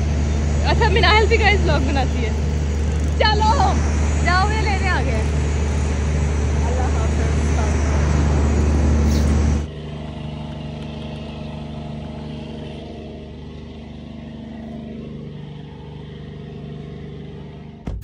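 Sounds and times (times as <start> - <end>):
loud traffic and engine noise: 0.0 - 17.8
car engine idling: 0.0 - 18.0.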